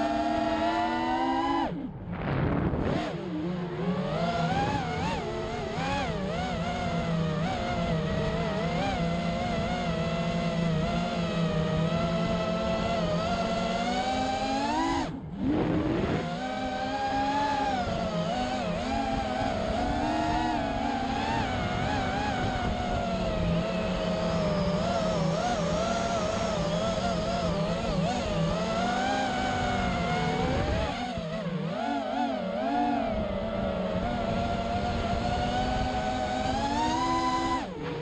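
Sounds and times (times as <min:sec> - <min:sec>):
quadcopter motors whining: 0:02.8 - 0:38.0.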